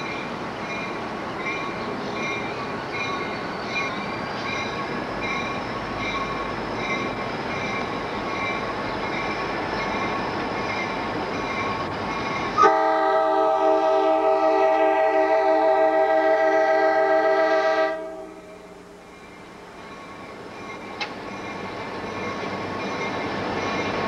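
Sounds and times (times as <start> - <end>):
crossing bell ringing: 0.0 - 15.1, 17.9 - 24.0
diesel locomotives running: 0.0 - 24.0.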